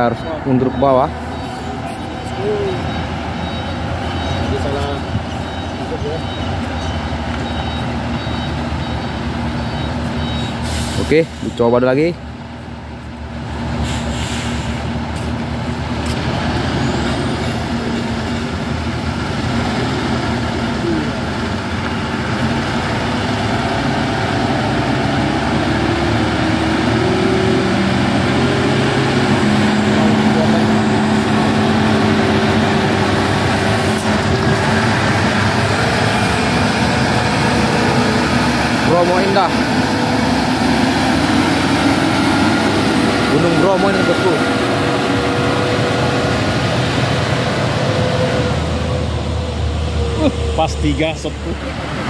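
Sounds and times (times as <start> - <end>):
truck diesel engine under load: 0.0 - 52.0.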